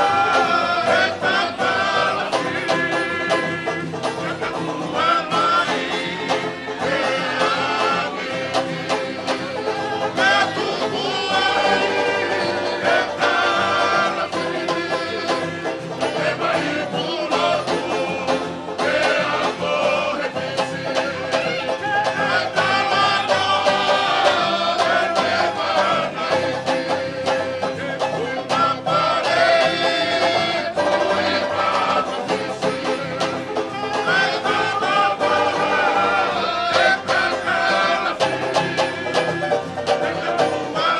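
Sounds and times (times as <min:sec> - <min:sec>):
acoustic guitars strummed: 0:00.0 - 0:40.9
men singing: 0:00.0 - 0:40.9.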